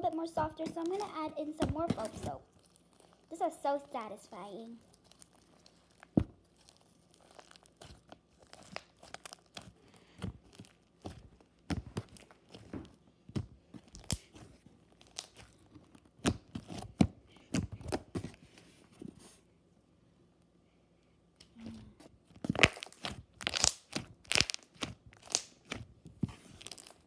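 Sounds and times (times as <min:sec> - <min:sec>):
slime kneaded by hand: 0:00.0 - 0:19.4, 0:21.5 - 0:27.0.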